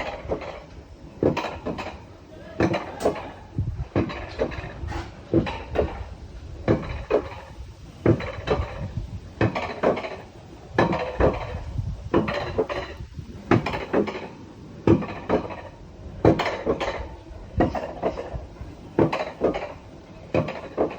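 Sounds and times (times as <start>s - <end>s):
low rolling rumble: 0.0s - 20.9s
sled clanking on metal rail: 0.0s - 20.9s.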